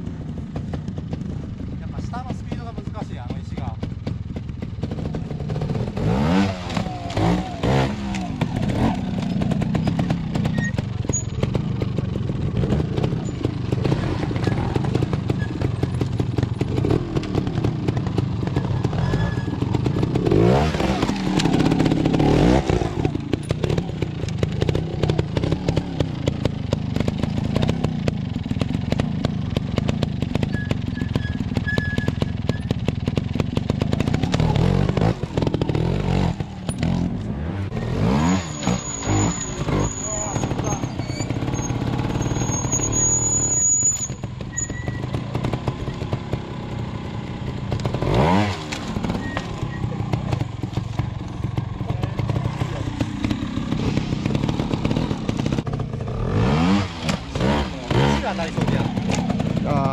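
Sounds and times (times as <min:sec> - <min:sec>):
motorcycle engine running at low revs: 0:00.0 - 0:59.9
motorcycle throttle blips: 0:00.0 - 0:59.9.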